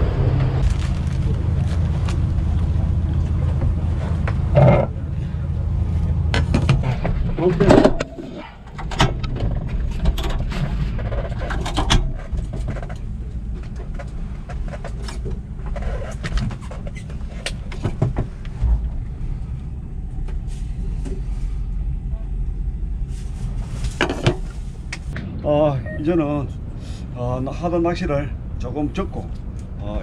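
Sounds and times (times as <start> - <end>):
boat engine rumble: 0.0 - 30.0.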